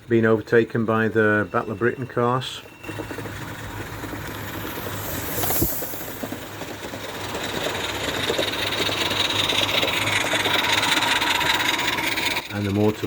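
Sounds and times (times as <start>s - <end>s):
steam locomotive exhaust chuffs: 0.0s - 13.0s
steam hiss: 0.7s - 13.0s.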